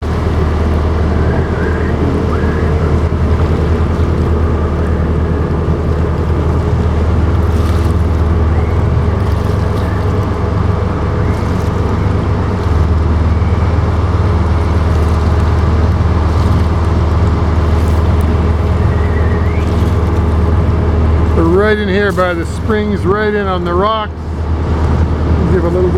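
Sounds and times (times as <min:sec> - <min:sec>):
boat motor running: 0:00.0 - 0:25.9
water noise: 0:00.0 - 0:25.9
wind: 0:00.0 - 0:25.9.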